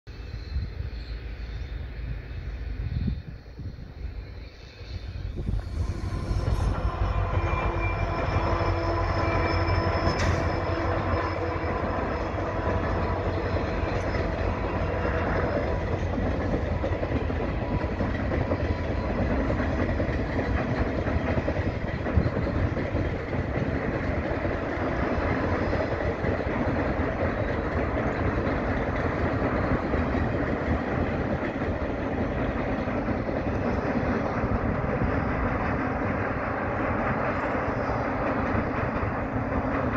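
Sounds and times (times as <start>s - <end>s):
train rumbling over track: 0.0s - 39.9s
locomotive engine tone: 0.1s - 39.9s.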